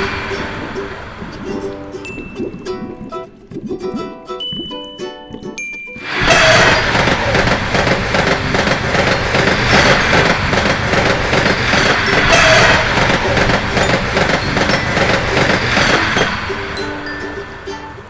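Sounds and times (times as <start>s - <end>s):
train passing with rumbling: 0.0s - 3.2s, 6.0s - 18.0s.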